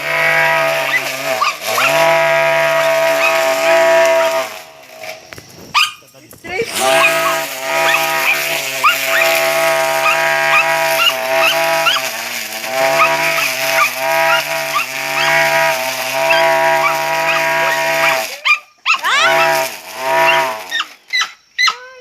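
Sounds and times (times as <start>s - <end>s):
lawnmower motor whining: 0.0s - 21.6s.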